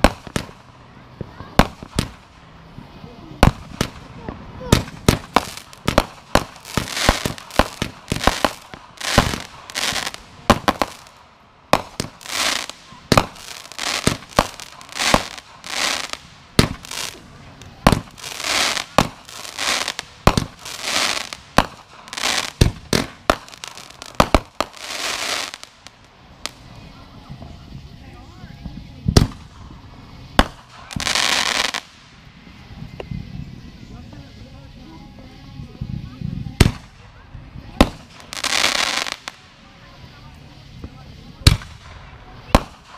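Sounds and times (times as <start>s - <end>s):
firework bangs: 0.0s - 28.0s, 28.6s - 33.4s, 36.4s - 42.9s
firework crackle: 0.0s - 42.9s.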